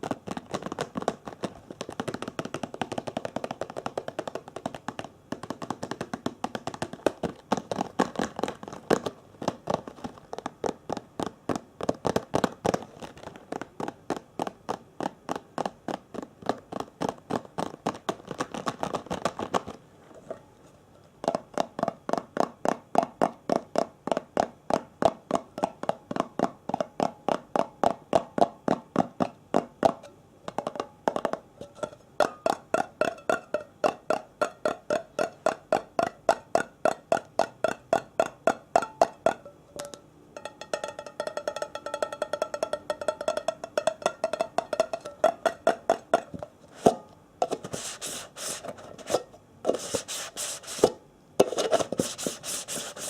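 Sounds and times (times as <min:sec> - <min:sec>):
rapid tapping on hard object: 0:00.0 - 0:19.8, 0:21.2 - 0:53.0.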